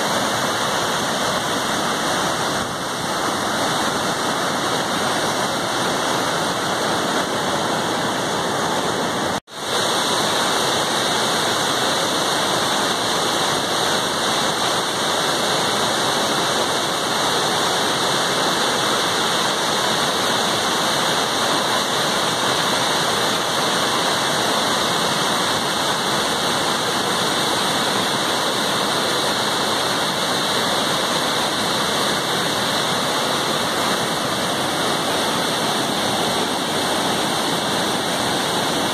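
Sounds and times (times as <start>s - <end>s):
white-water rapids rushing over rocks: 0.0s - 38.9s.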